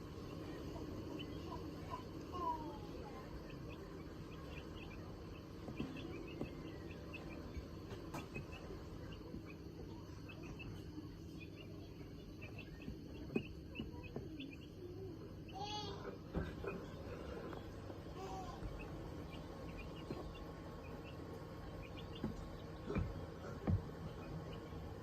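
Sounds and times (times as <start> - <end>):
ducks peeping: 0.0 - 25.0.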